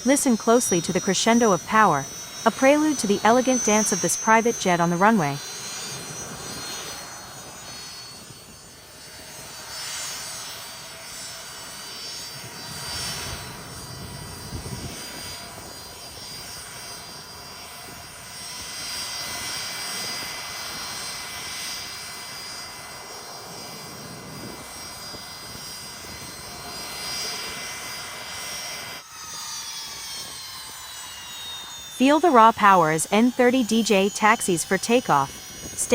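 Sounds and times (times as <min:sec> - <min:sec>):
jet turbine engines whining: 0:00.0 - 0:35.9.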